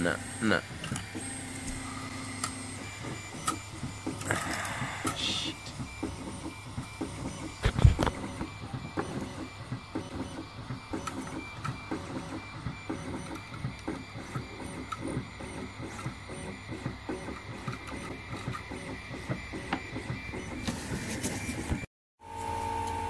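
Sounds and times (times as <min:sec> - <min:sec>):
three-d printer motors whirring: 0:00.0 - 0:23.0.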